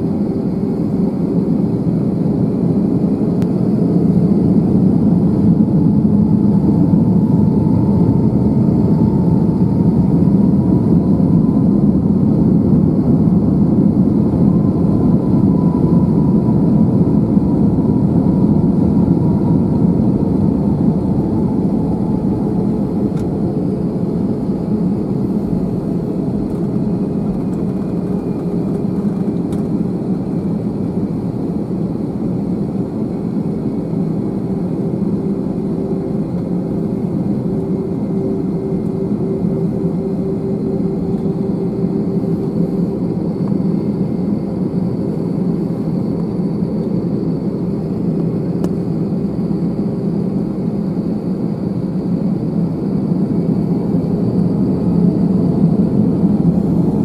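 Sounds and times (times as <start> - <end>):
faint rising whine: 0.0 - 50.0
jet engines at takeoff thrust: 0.0 - 57.0.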